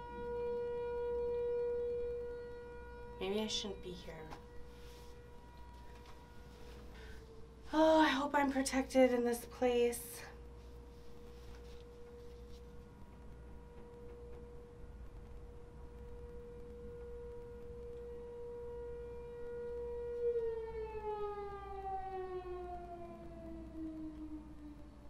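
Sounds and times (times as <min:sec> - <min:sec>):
warning siren: 0:00.0 - 0:25.0.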